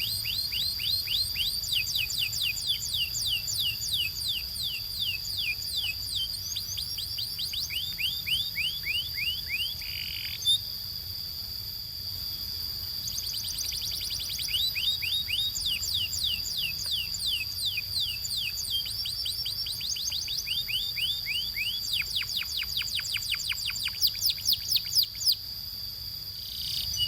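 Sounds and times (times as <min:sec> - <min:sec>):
canary singing a trill: 0:00.0 - 0:10.7, 0:13.0 - 0:25.4, 0:26.4 - 0:27.0.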